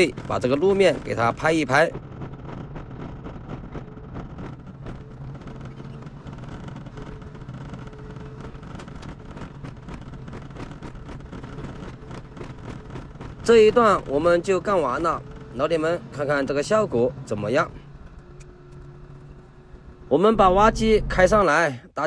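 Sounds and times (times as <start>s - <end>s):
excavator diesel engine running: 0.0s - 21.8s.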